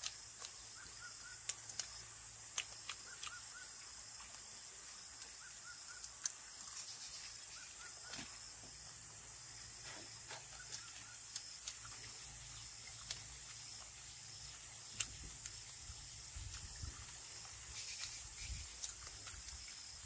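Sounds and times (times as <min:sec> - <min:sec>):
clicks and mouth smacks of eating: 0:00.0 - 0:07.2, 0:09.8 - 0:20.0
steady high hiss: 0:03.8 - 0:20.0.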